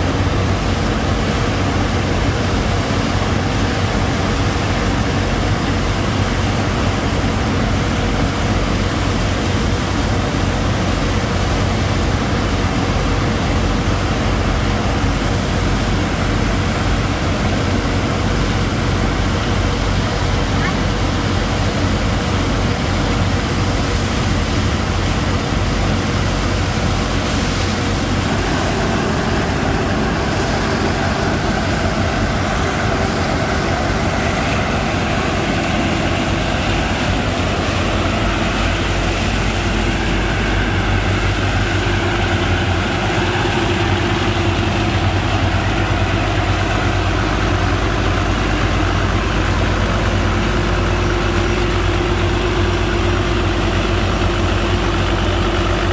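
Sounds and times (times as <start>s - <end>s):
pump engine running: 0.0s - 55.9s.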